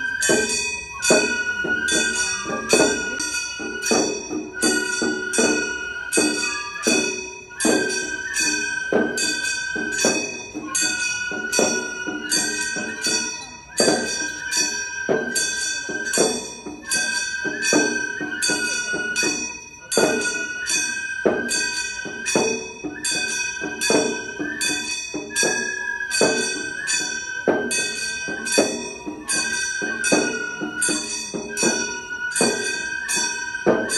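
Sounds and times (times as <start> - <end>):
high transverse flute: 0.0 - 33.9.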